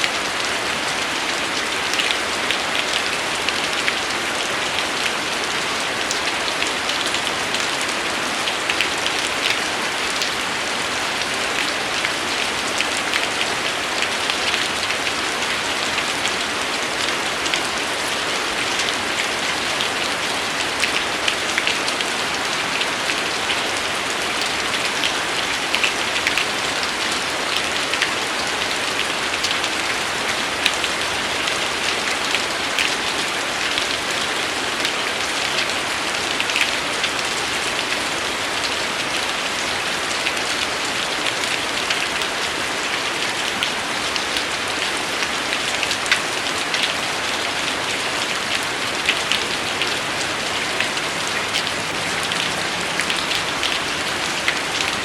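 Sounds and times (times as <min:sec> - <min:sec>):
rain on hard surface: 0:00.0 - 0:55.0.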